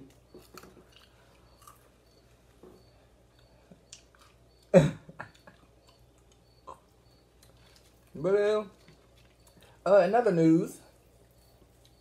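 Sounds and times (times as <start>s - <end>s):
people chewing: 0.0s - 9.8s, 10.9s - 12.0s.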